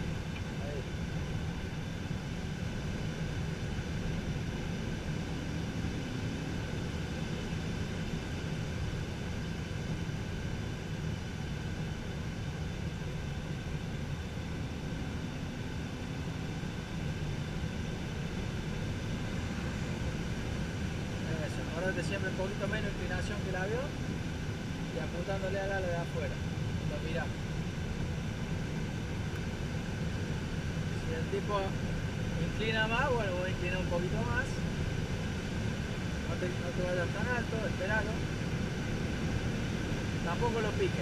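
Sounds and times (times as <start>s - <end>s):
airflow rushing in cockpit: 0.0s - 41.0s
plane engine drone: 0.0s - 41.0s.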